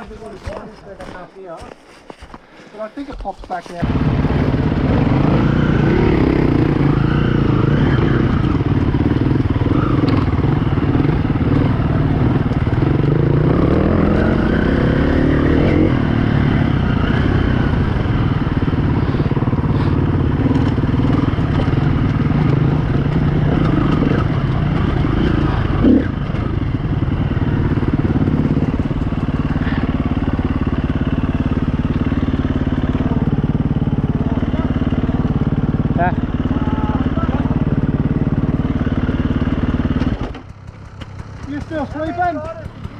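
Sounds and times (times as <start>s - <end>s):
dirt bike engine revving: 3.8s - 42.9s.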